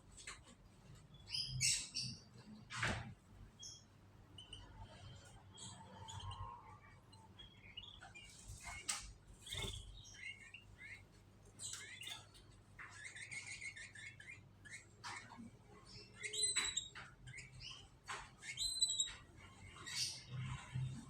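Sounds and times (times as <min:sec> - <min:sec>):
canaries chirping: 0:00.0 - 0:21.0.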